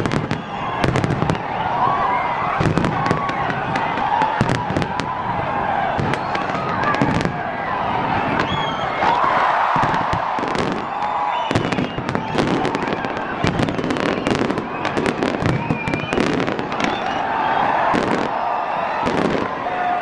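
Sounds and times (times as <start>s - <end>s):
fireworks bangs and crackles: 0.0s - 19.9s.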